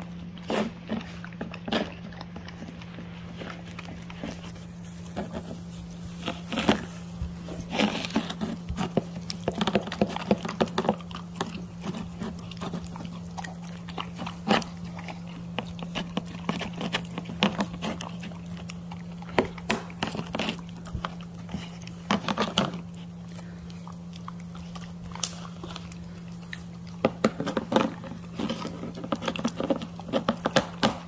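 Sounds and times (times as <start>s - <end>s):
puppy chewing and lip-smacking: 0.0s - 31.0s
steady low hum: 0.0s - 31.0s.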